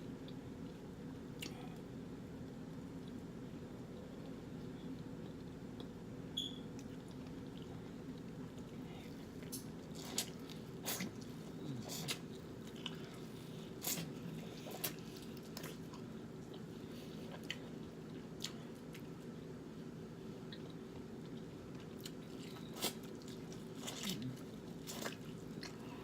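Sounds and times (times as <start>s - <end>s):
wet chewing and smacking: 2.4s - 6.0s, 6.7s - 19.5s, 20.4s - 26.0s.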